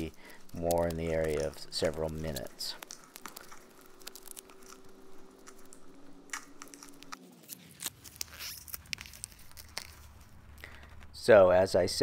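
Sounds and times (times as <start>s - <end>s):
tape crinkling and tearing: 0.0s - 11.2s.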